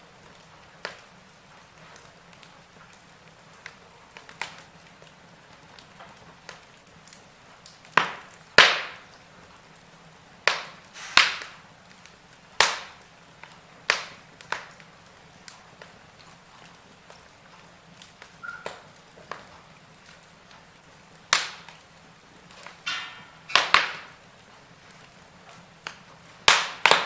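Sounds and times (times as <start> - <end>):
faint steady hiss: 0.0 - 27.0
wood fire crackling: 0.0 - 27.0.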